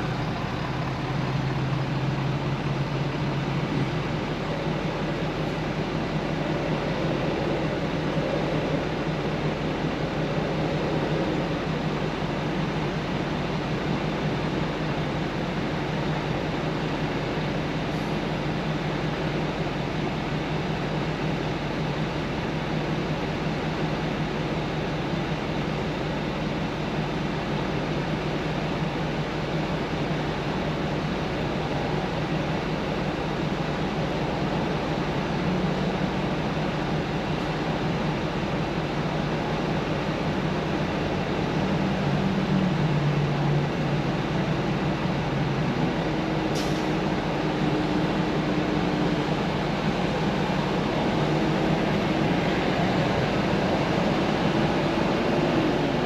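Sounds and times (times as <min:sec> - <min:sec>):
car engine: 0:00.0 - 0:56.0
road noise inside car: 0:00.0 - 0:56.0.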